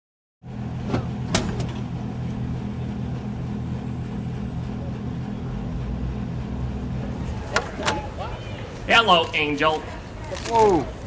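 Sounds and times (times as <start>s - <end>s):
low mechanical hum: 0.4s - 11.0s.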